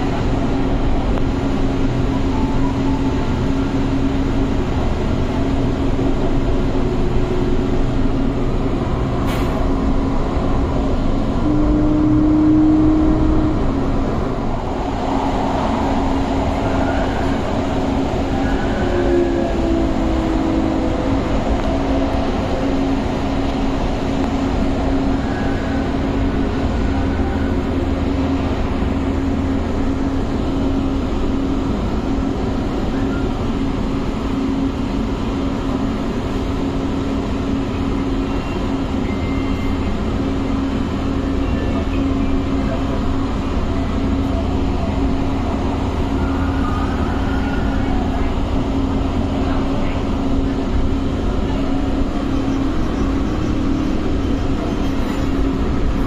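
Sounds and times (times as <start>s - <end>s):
train rolling rumble: 0.0s - 56.0s.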